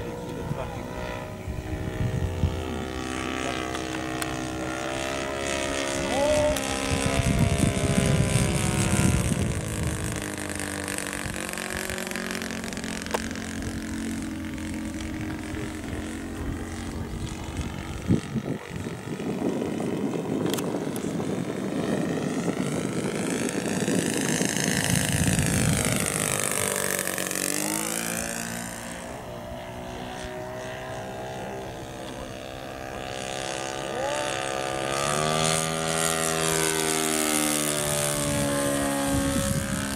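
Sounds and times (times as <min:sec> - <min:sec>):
model airplane engine flyby: 0:00.0 - 0:39.9.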